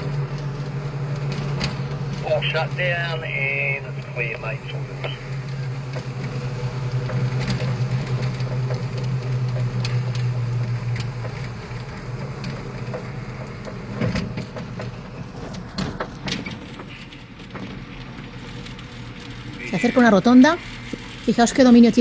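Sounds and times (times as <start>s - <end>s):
light ticks and rattles: 0.0s - 22.0s
low vehicle drone: 0.0s - 22.0s.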